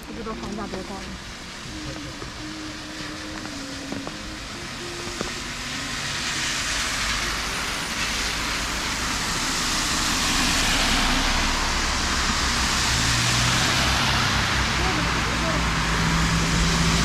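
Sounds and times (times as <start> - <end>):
car traffic on wet road: 0.0 - 17.0
heavy rain hissing: 0.0 - 17.0.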